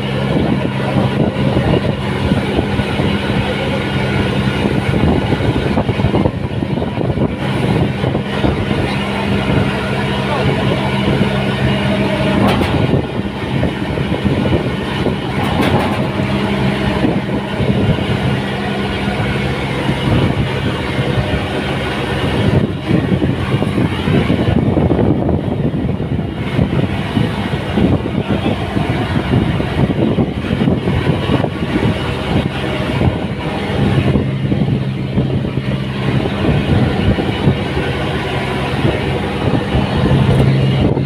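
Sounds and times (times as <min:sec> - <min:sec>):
engine droning steadily: 0:00.0 - 0:41.0.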